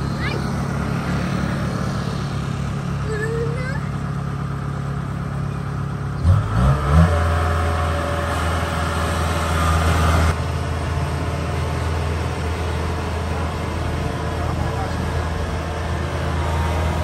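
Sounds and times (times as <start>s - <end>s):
diesel harvester engines running: 0.0s - 17.0s.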